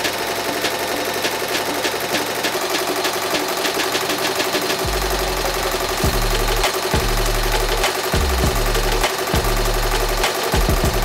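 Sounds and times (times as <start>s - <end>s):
embroidery machine clattering: 0.0s - 11.0s.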